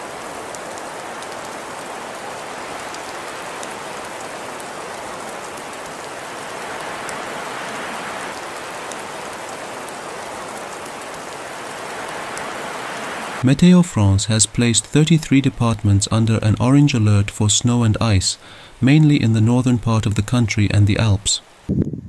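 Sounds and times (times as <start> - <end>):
rain hissing on surfaces: 0.0 - 21.7.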